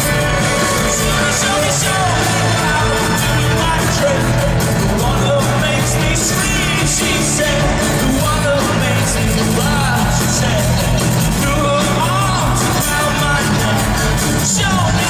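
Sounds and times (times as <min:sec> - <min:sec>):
live rock band: 0:00.0 - 0:15.0
man singing: 0:00.0 - 0:15.0.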